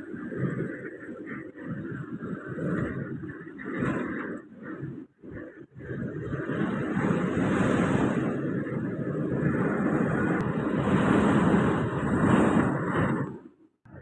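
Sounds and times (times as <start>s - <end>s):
strong wind rushing: 0.0s - 14.0s
wind gusts buffeting microphone: 0.0s - 14.0s.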